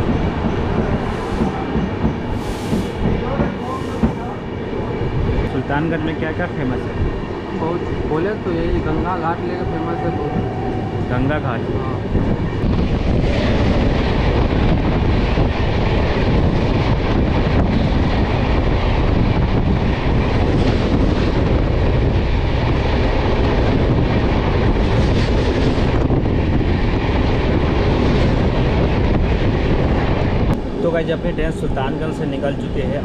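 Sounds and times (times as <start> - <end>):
passing train rush and rattle: 0.0 - 33.0
train running noise: 0.0 - 33.0.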